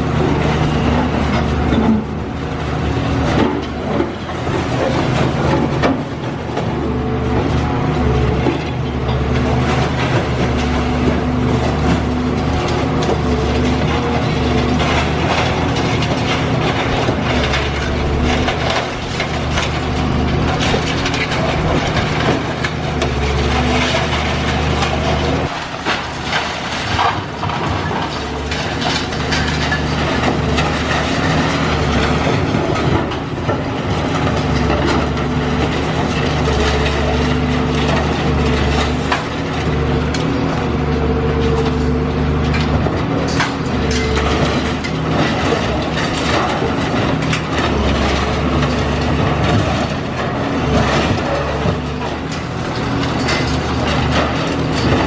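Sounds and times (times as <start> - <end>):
clanking and crunching concrete: 0.0 - 55.0
diesel engine running under load: 0.0 - 55.0.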